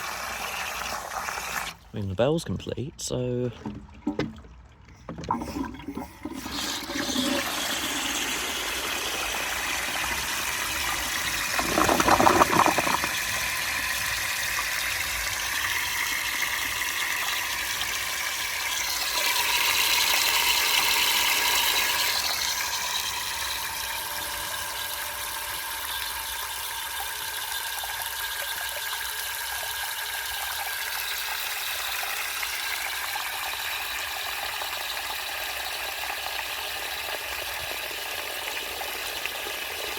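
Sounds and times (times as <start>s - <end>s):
toilet cistern flushing and refilling: 0.0s - 1.9s, 3.5s - 39.9s.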